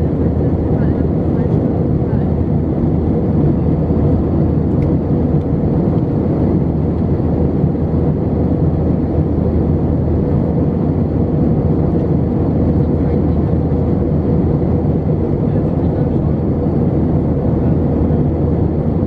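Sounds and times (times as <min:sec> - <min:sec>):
airplane cabin engine roar: 0:00.0 - 0:19.0.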